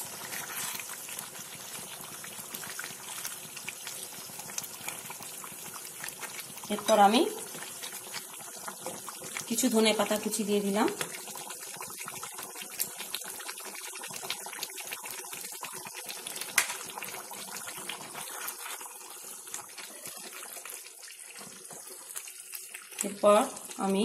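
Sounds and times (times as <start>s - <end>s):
curry simmering in a frying pan: 0.0s - 24.0s.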